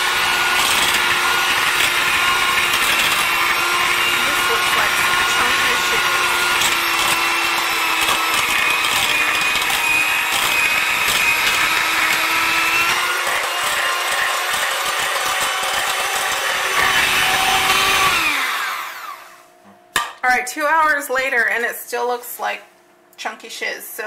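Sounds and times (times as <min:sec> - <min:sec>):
electric hand mixer whining: 0:00.0 - 0:19.5.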